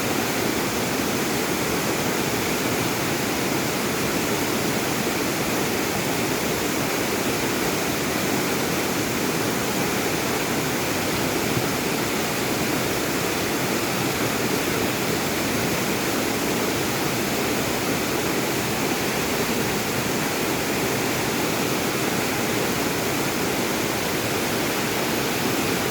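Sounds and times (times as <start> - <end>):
stream rushing: 0.0 - 25.9.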